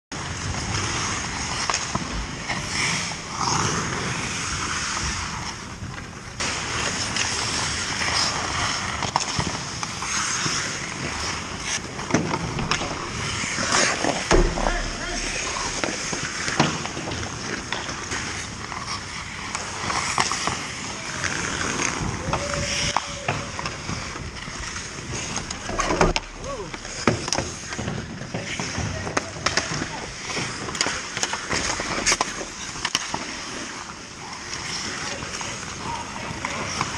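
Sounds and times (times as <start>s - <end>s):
hockey sticks and puck clacking: 0.2s - 36.9s
skates scraping ice: 0.2s - 36.9s.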